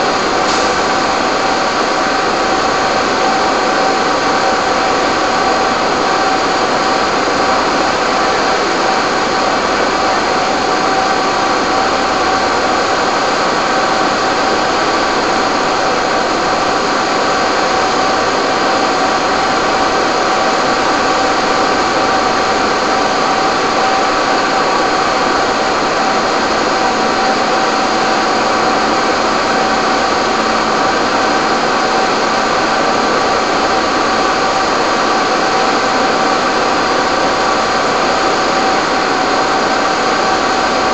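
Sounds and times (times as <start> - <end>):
fire engine pumps droning: 0.0 - 40.9.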